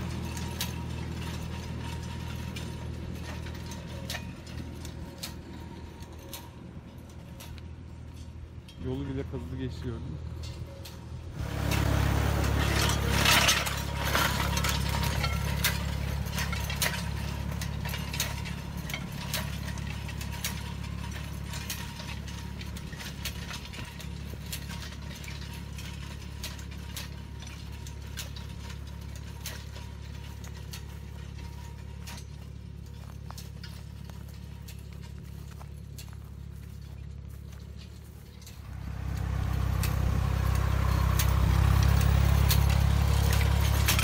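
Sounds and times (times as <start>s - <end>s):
implement clicks and clanks: 0.0s - 44.0s
tractor engine running: 0.0s - 44.0s.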